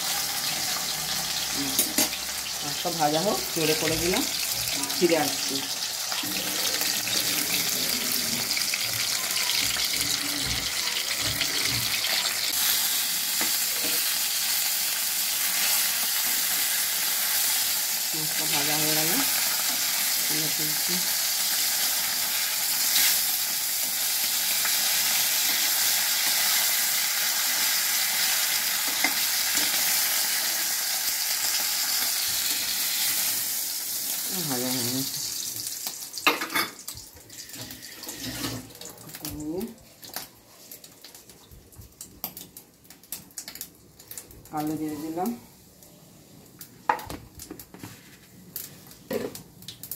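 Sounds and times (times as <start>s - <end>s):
fish sizzling in hot oil: 0.0s - 45.4s.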